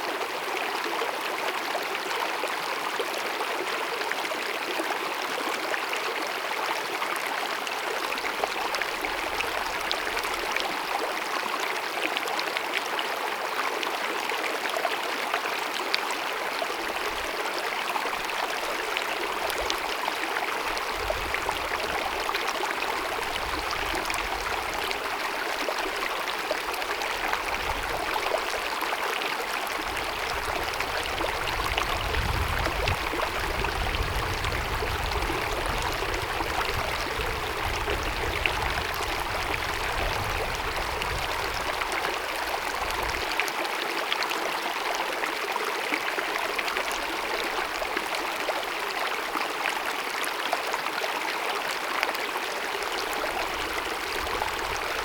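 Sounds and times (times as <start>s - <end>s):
stream cascading: 0.0s - 55.0s.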